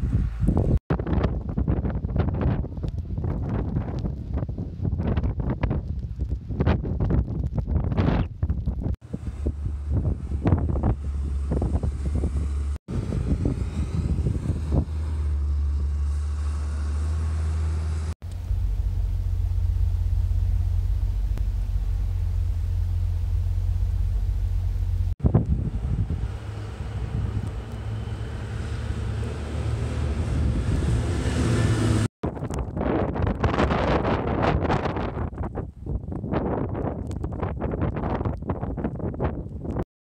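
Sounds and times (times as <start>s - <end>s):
wind buffeting microphone: 0.0s - 16.2s, 18.3s - 39.8s
vehicle engine rumble: 0.0s - 39.8s.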